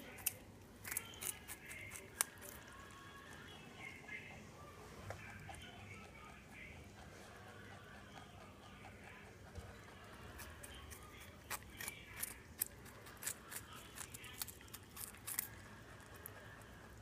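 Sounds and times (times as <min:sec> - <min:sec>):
rabbit crunching a carrot: 0:00.0 - 0:17.0.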